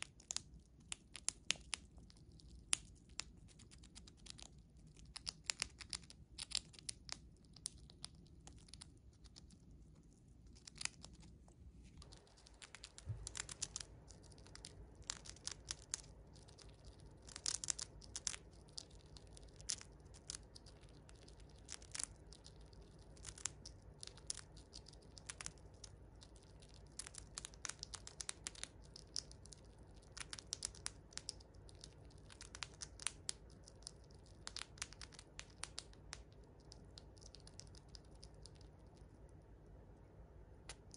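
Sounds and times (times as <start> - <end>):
chipmunk crunching chips: 0.0 - 39.4.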